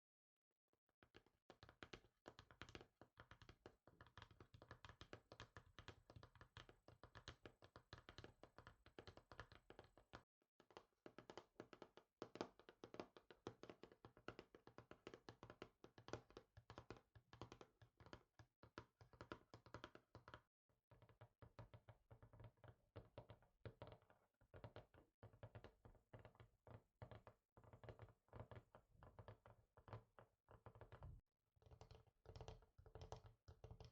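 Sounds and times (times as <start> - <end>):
fingers tapping on a surface: 1.0 - 33.9.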